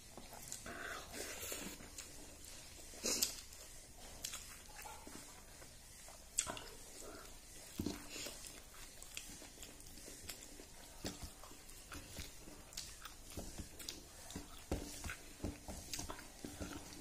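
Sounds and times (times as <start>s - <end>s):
mouth chewing: 0.0s - 17.0s.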